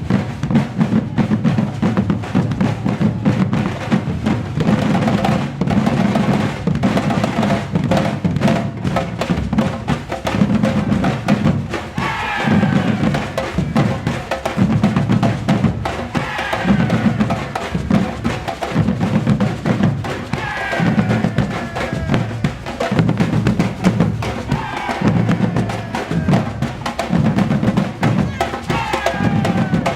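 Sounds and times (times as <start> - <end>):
drum ensemble playing: 0.0 - 29.9.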